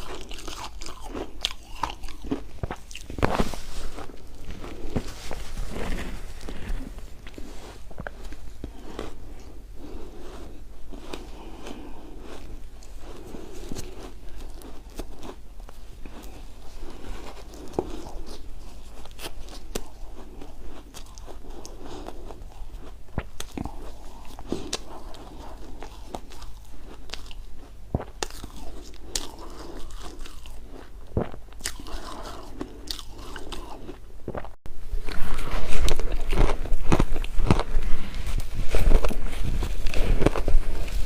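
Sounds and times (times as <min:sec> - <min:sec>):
chewing crunchy ice: 0:00.0 - 0:41.0.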